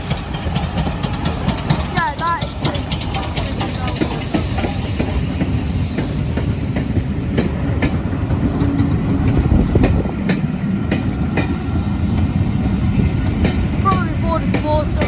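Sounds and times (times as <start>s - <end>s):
train rolling rumble: 0.0s - 15.0s
wheels clicking over rail joints: 0.0s - 15.0s.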